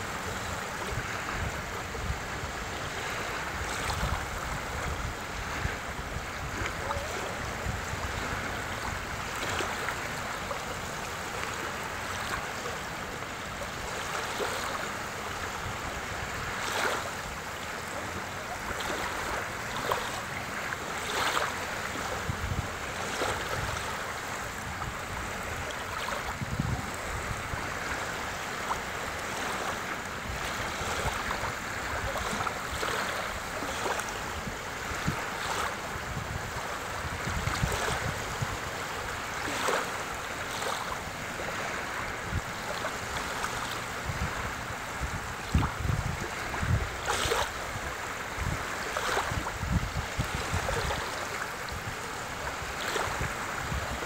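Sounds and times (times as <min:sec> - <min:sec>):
small waves lapping and splashing: 0:00.0 - 0:54.0.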